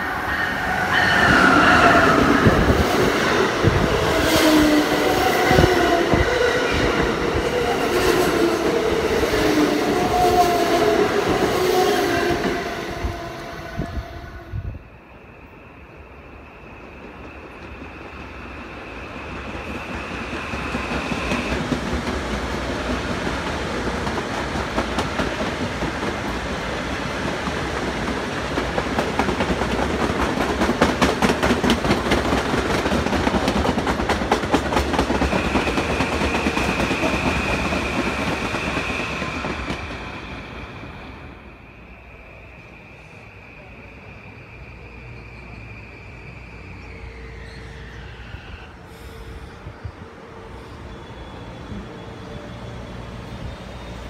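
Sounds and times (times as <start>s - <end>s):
passenger train rumbling past: 0.0s - 54.0s.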